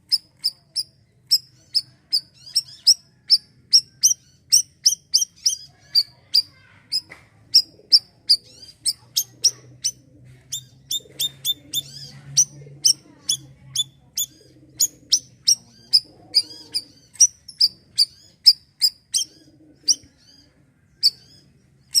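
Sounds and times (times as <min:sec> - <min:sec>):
songbird high chirps: 0:00.1 - 0:22.0.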